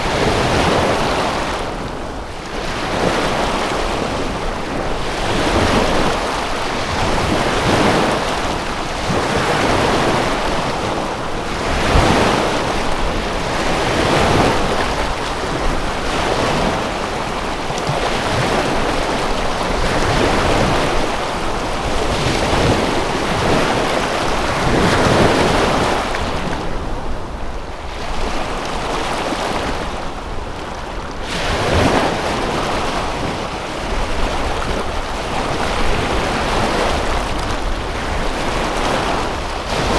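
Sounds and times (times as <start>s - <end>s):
waves washing in: 0.0s - 39.9s
wind: 0.0s - 39.9s.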